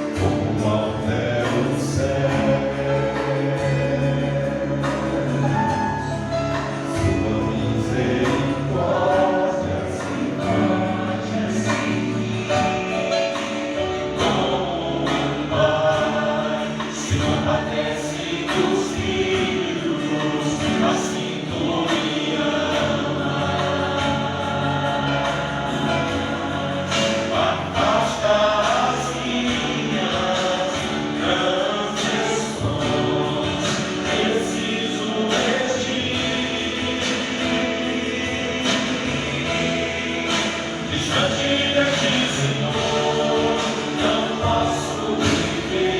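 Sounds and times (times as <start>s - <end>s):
group singing gospel song: 0.0s - 45.9s
instrumental accompaniment with beat: 0.0s - 45.9s.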